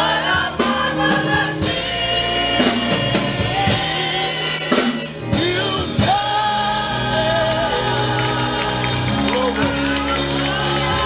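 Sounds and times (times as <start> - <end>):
drums: 0.0 - 11.0
gospel choir singing: 0.0 - 11.0
keyboard: 0.0 - 11.0.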